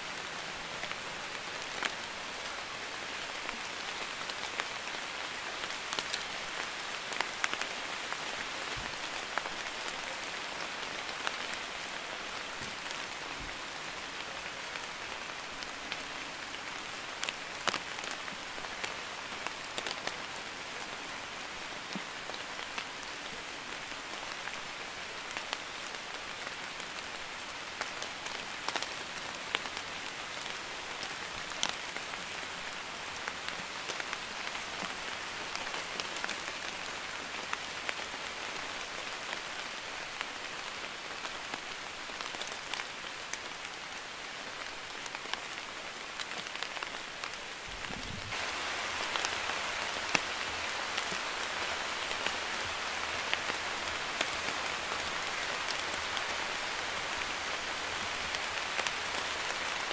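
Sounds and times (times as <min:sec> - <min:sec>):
light rain on pavement: 0:00.0 - 0:59.9.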